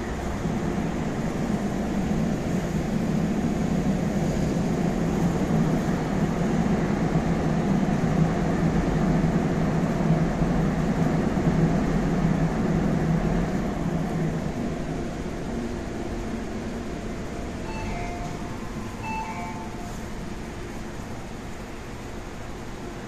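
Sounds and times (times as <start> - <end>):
train interior rumble and hum: 0.0 - 23.0.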